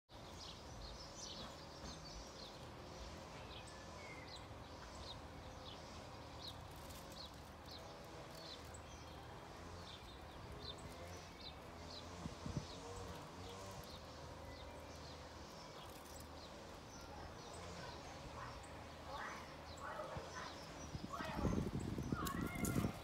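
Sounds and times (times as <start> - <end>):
birds chirping: 0.1 - 23.0.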